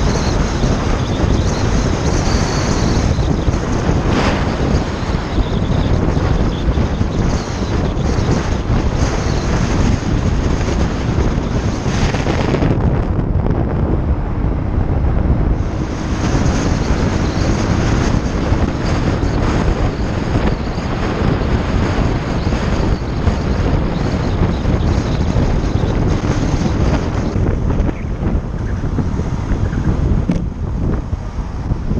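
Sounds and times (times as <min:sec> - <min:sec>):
wind buffeting on microphone: 0:00.0 - 0:31.9.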